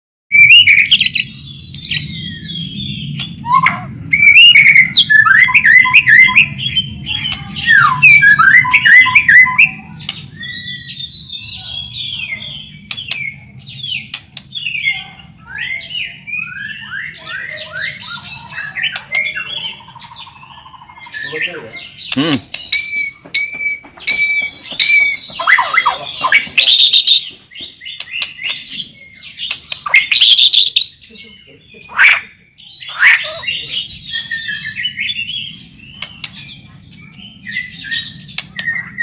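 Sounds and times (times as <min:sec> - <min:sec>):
bird singing whistled song: 0:00.3 - 0:22.0, 0:22.6 - 0:31.2, 0:31.9 - 0:36.4, 0:37.2 - 0:39.0.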